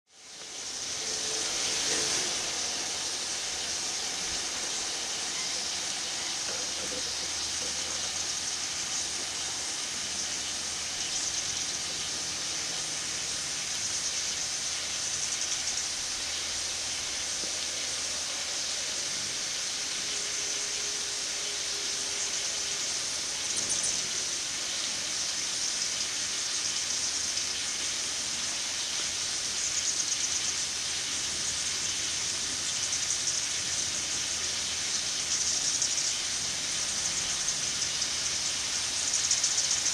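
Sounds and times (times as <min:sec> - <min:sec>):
water spraying hiss: 0:00.1 - 0:39.9.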